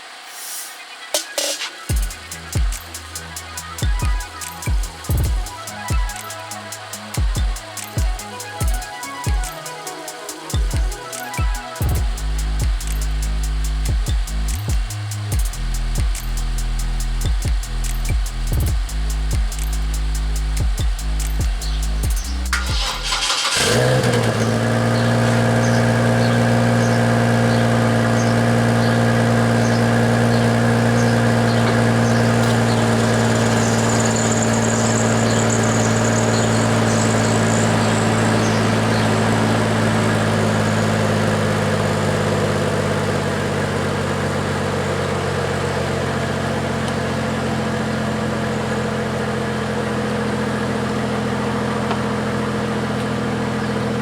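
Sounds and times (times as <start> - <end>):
car engine idling: 1.9 - 54.0.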